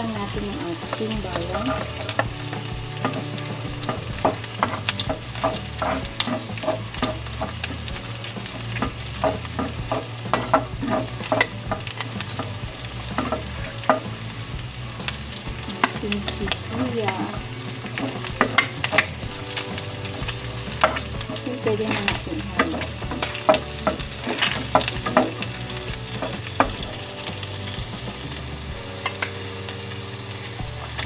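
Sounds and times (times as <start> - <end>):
food sizzling in a pan: 0.0 - 31.0
spatula scraping a pan: 0.3 - 28.4.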